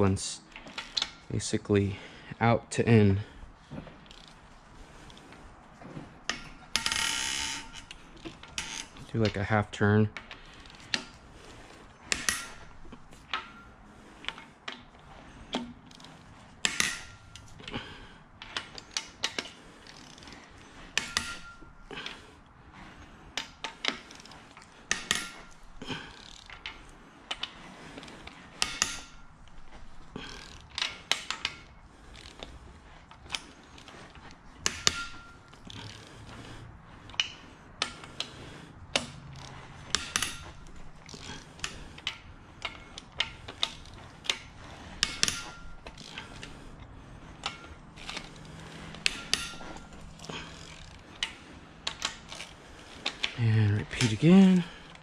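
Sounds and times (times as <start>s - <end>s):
hand ratchet clicking: 0.5s - 1.2s, 6.3s - 9.5s, 10.2s - 14.8s, 15.5s - 22.3s, 23.4s - 55.0s.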